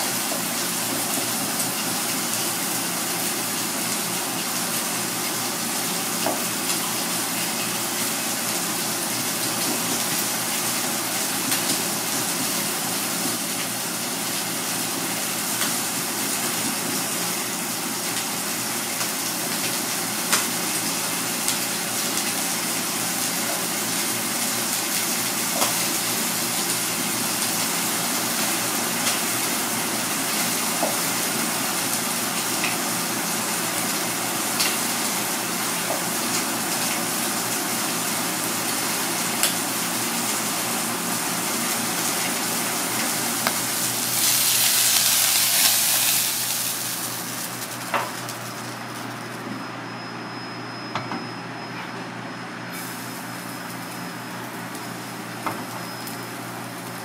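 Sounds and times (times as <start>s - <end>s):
rushing kitchen background noise: 0.0s - 57.0s.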